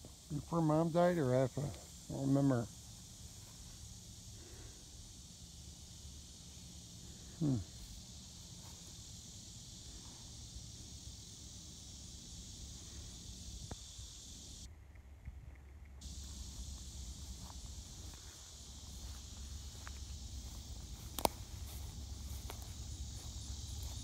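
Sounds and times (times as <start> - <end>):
high-pitched insect buzz: 0.0 - 14.7, 16.0 - 24.0.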